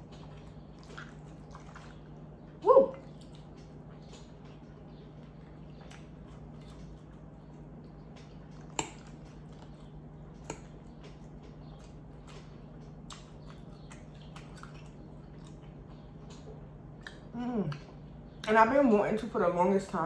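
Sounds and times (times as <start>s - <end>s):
close chewing and mouth sounds: 0.0s - 19.6s.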